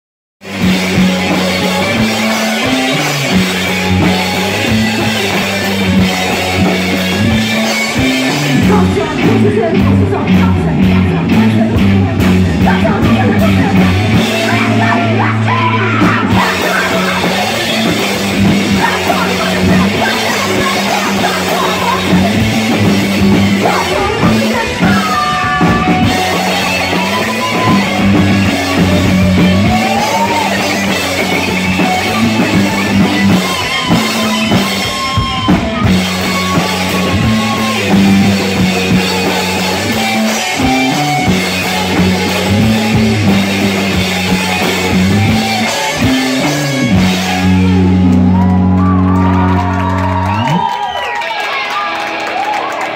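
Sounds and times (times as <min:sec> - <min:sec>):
live rock band playing: 0:00.4 - 0:52.9.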